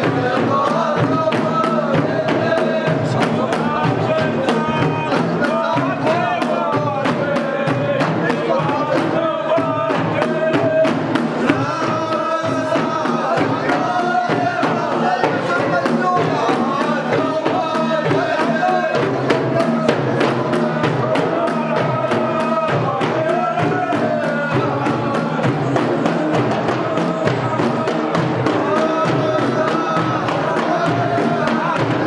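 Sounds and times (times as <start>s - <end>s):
frame drums beating: 0.0s - 32.0s
men chanting together: 0.0s - 32.0s.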